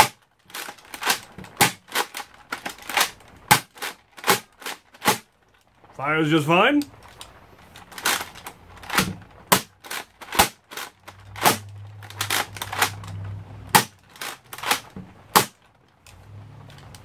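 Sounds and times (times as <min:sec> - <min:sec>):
toy blaster plastic clacks and shots: 0:00.0 - 0:05.3, 0:07.1 - 0:15.7.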